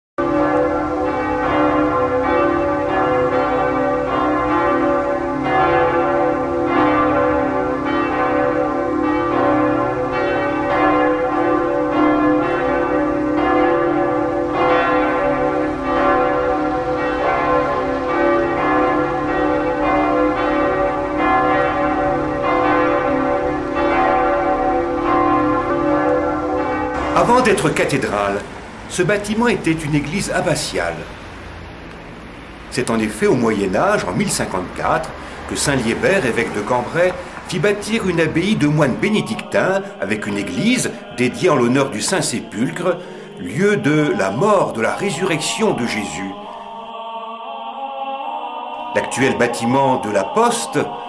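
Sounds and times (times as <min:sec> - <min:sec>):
church bells pealing: 0:00.2 - 0:31.7, 0:32.4 - 0:51.0.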